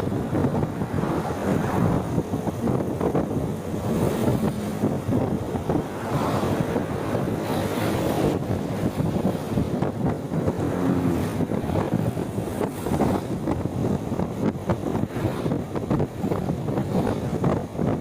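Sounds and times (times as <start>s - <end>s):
traffic noise: 0.0s - 18.0s
wind buffeting microphone: 0.0s - 18.0s.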